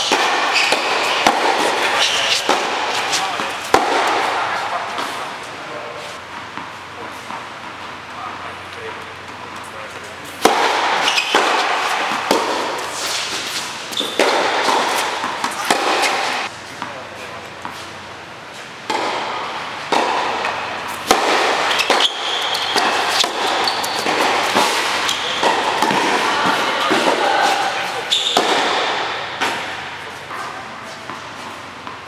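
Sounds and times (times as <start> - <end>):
tennis balls bouncing on court: 0.0 - 5.5, 6.2 - 9.6, 10.4 - 17.9, 18.8 - 32.0
tennis balls struck by rackets: 0.0 - 5.5, 10.4 - 18.1, 18.8 - 32.0.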